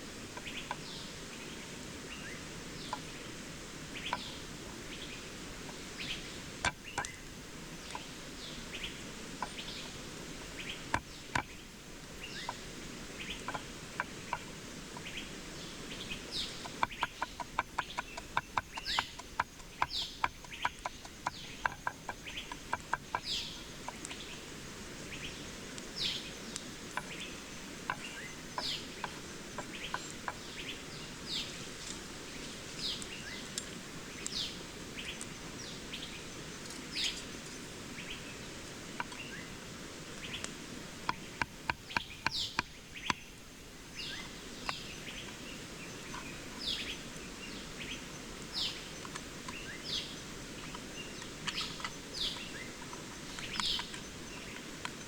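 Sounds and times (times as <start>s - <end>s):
bird chirping: 0.1s - 55.0s.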